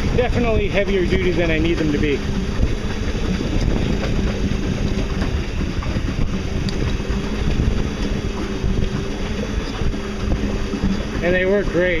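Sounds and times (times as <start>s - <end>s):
electric motor hum: 0.0s - 12.0s
wind buffeting microphone: 0.0s - 12.0s.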